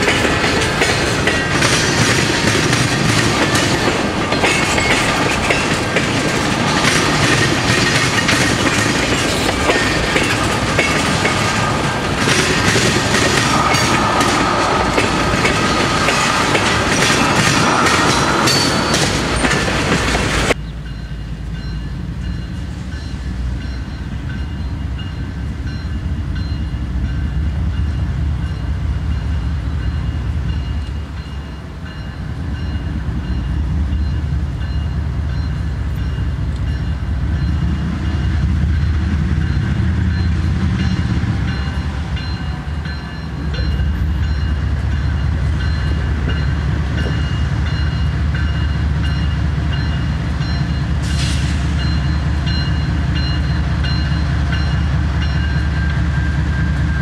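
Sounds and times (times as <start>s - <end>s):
distant diesel locomotive rumble: 0.0s - 57.0s
train wheels clacking on rails: 0.0s - 57.0s.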